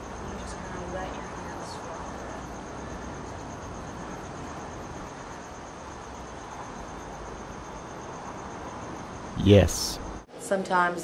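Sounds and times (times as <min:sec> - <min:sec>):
background hiss: 0:00.0 - 0:10.2
crickets trilling: 0:00.0 - 0:10.3.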